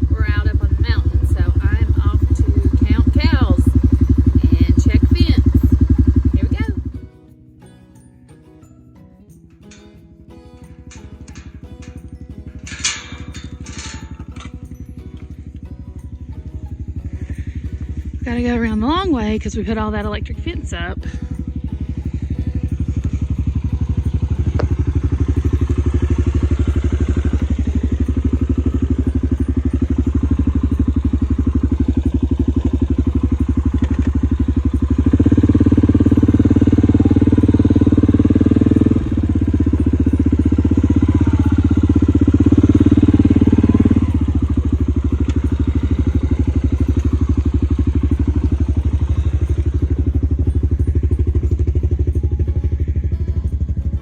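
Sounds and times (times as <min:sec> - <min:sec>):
small vehicle engine running: 0:00.0 - 0:54.0.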